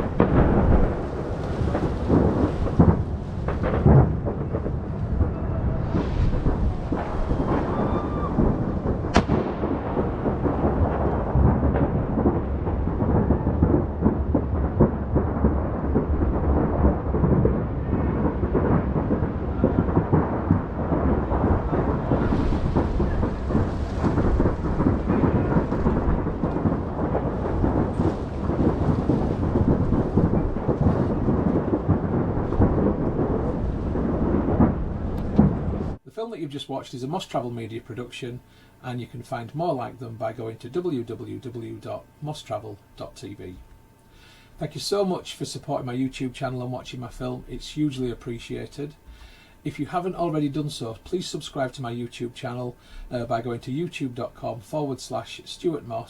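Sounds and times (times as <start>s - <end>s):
fireworks bangs and crackles: 0.0s - 43.9s, 44.5s - 56.0s.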